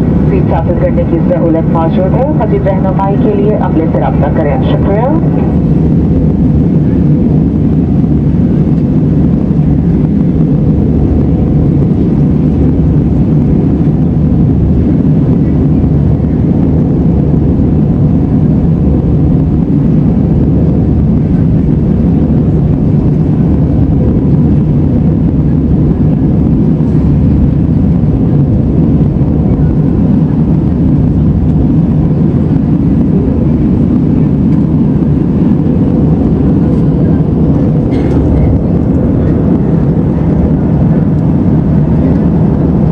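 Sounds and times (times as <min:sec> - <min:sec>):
airliner cabin engine noise: 0:00.0 - 0:42.9.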